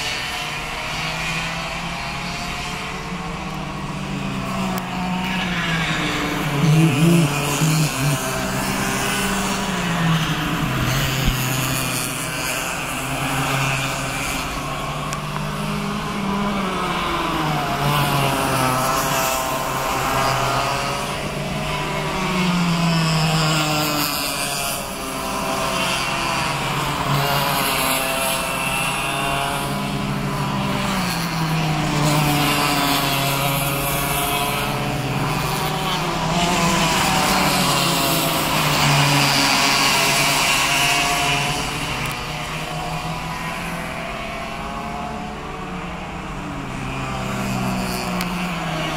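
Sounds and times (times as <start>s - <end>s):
kart engines buzzing: 0.0s - 48.9s.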